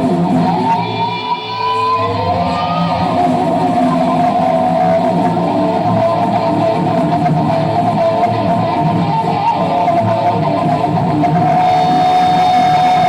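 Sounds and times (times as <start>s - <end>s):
electric guitar bent notes: 0.0s - 13.0s
live rock band playing: 0.0s - 13.0s.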